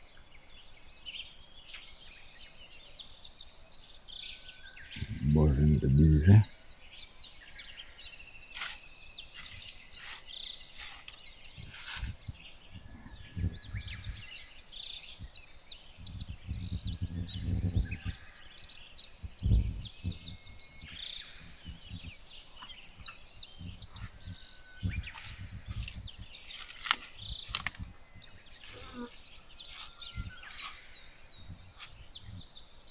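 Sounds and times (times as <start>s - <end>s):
birds chirping and singing: 0.0s - 32.9s.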